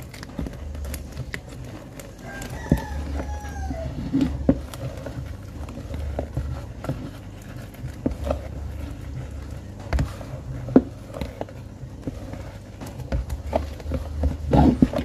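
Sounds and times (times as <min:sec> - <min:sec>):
spoon scraping mixing bowl: 0:00.0 - 0:15.0.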